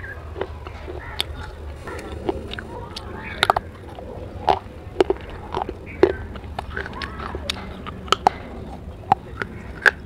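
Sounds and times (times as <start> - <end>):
chewing baked clay crunches: 0.0 - 10.0.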